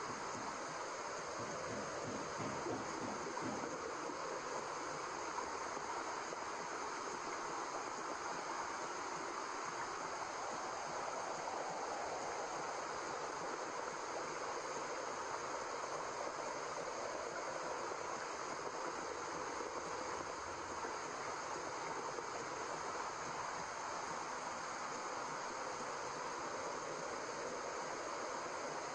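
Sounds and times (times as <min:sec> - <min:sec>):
white noise hiss: 0:00.0 - 0:28.9.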